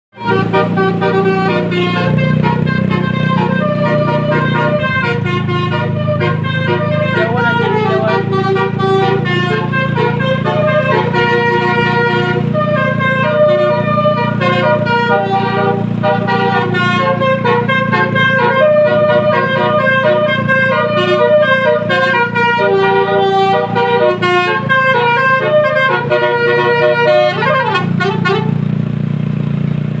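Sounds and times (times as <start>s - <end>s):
multi-tone bus horn melody: 0.1s - 29.7s
steady low hum: 0.2s - 28.5s.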